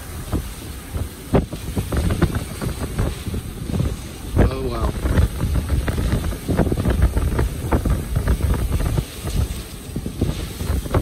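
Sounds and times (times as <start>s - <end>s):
wind gusts buffeting microphone: 0.0s - 11.0s
wind-driven rain: 0.0s - 11.0s.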